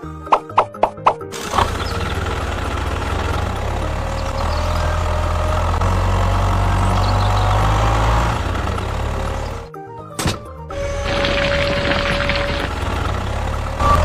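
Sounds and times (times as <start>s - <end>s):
heavy vehicle engine rumbling: 1.3s - 9.7s, 10.8s - 14.0s.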